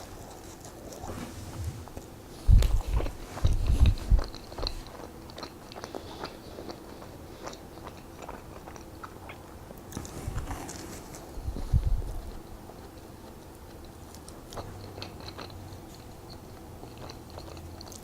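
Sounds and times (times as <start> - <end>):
person chewing: 0.0 - 1.2, 1.8 - 18.0.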